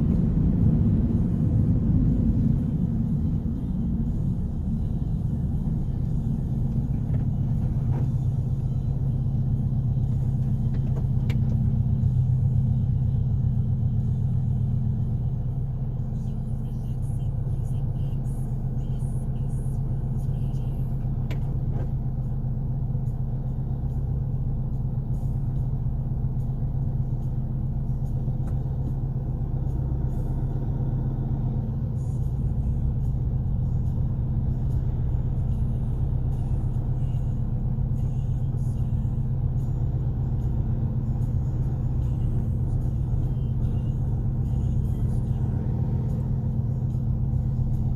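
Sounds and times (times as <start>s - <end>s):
car engine and exhaust drone: 0.0s - 47.9s.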